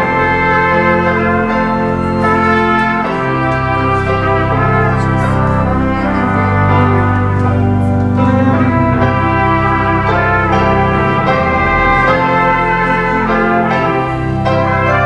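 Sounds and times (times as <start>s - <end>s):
brass and organ playing chords: 0.0s - 15.0s.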